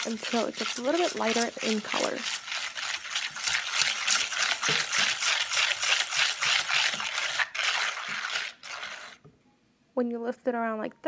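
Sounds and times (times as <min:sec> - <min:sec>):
wire whisk beating in metal pot: 0:00.0 - 0:09.2.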